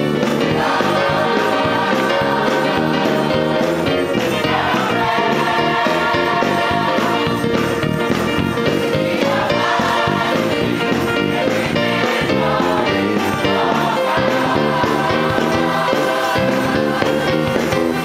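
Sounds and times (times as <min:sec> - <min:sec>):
gospel choir singing: 0:00.0 - 0:18.0
instrumental accompaniment: 0:00.0 - 0:18.0.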